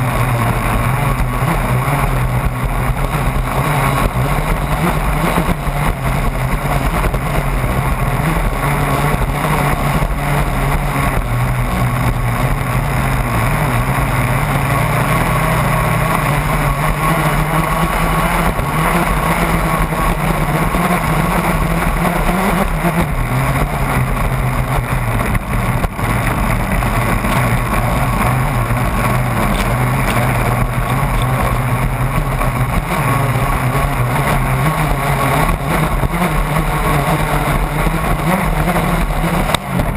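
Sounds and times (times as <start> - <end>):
model boat motor: 0.0 - 39.9.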